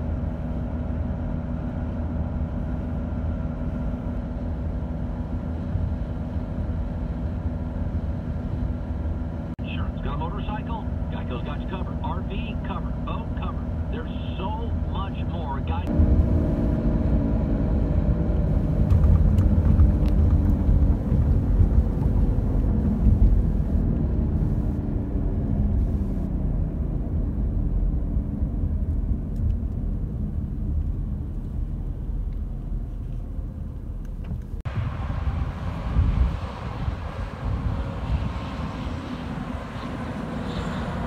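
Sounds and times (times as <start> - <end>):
car cabin road rumble: 0.0 - 41.0
outdoor traffic noise: 0.0 - 41.0.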